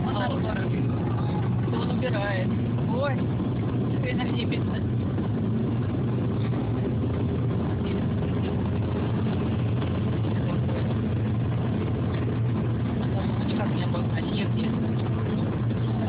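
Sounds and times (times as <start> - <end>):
in-car engine and road drone: 0.0 - 16.0.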